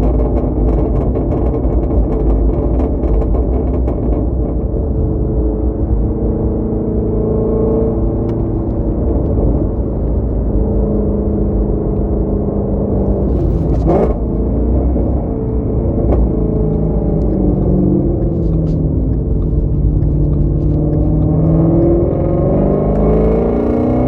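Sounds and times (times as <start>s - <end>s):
exhaust crackling pops: 0.0s - 6.5s, 7.7s - 23.9s
car exhaust at cruise: 0.0s - 24.0s.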